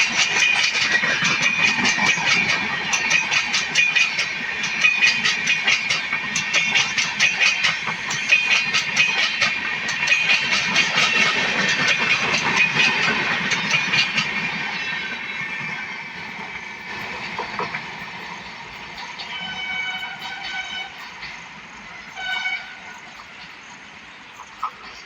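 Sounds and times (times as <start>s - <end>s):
train wheels clattering over rails: 0.0s - 25.0s.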